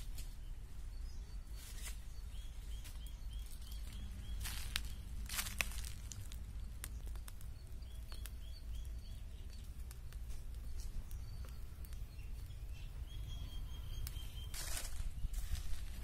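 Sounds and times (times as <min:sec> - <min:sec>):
bird chirping: 0:00.0 - 0:16.0
wood fire crackling and popping: 0:01.6 - 0:16.0.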